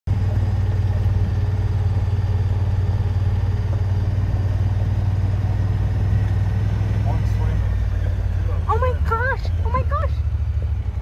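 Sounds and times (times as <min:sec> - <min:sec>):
vehicle engine idling: 0:00.1 - 0:11.0.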